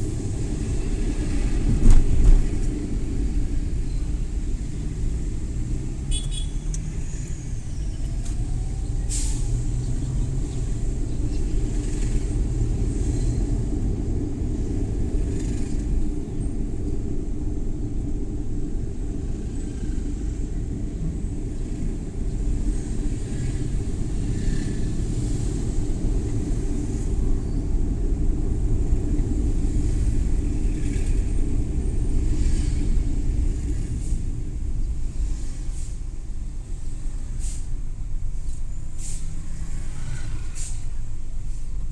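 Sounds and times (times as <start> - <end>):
van engine and road rumble: 0.0 - 41.9.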